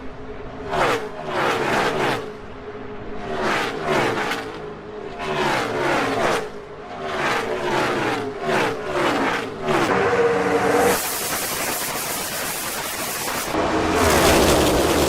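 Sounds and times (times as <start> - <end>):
race cars passing at full speed: 0.0 - 15.0.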